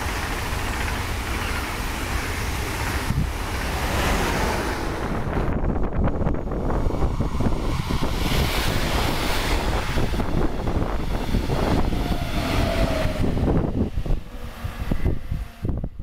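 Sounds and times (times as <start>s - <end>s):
train passing: 0.0s - 16.0s
wind buffeting microphone: 2.5s - 16.0s.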